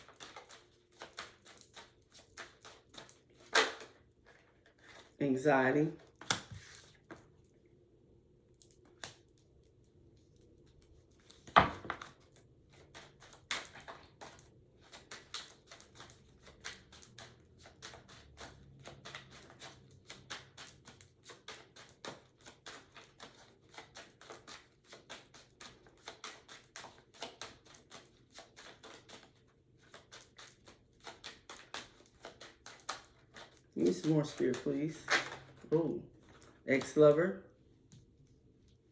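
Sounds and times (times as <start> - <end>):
cards shuffled and tapped: 0.0 - 5.1, 6.0 - 7.2, 11.2 - 37.3.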